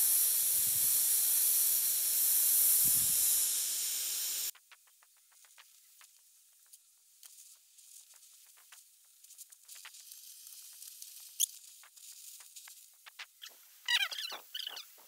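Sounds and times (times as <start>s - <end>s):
torch flame hissing: 0.0s - 4.6s, 6.7s - 14.3s
small crackles and sizzles: 0.0s - 15.0s.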